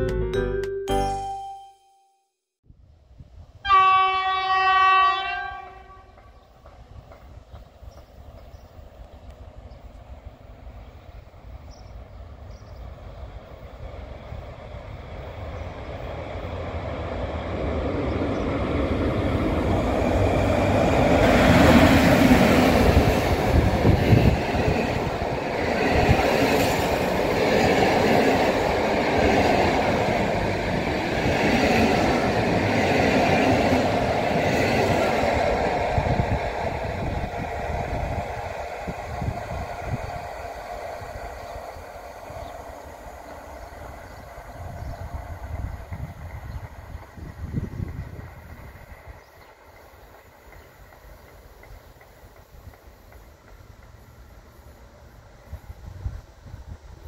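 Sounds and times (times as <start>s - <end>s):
electric locomotive passing: 3.5s - 57.0s
train wheels rolling on rails: 6.1s - 57.0s.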